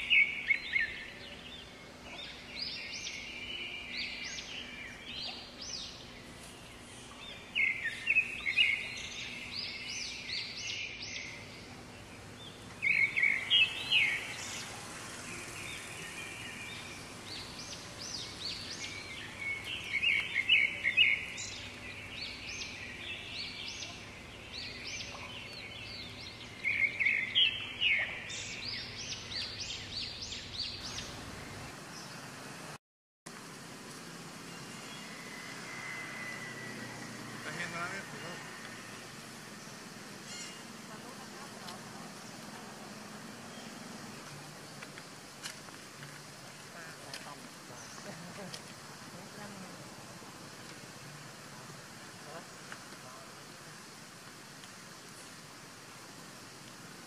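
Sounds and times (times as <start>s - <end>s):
birds chirping: 0.0s - 32.8s, 34.0s - 54.0s
outdoor background noise: 0.0s - 57.0s.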